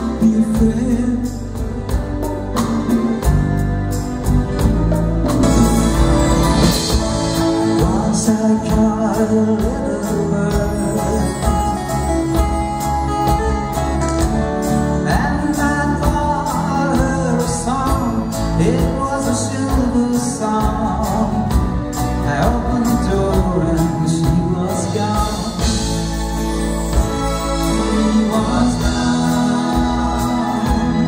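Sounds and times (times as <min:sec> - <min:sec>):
man singing: 0:00.0 - 0:03.4, 0:06.8 - 0:26.1, 0:27.1 - 0:31.0
acoustic guitar: 0:00.0 - 0:31.0
electric guitar: 0:00.0 - 0:31.0
keyboard: 0:00.0 - 0:31.0.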